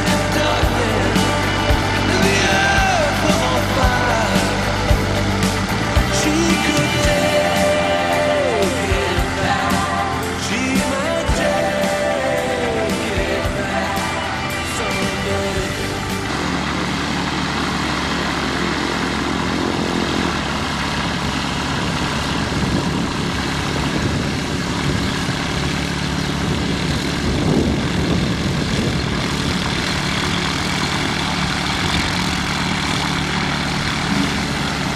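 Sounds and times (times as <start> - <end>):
aircraft engine and propeller droning: 0.0 - 34.9.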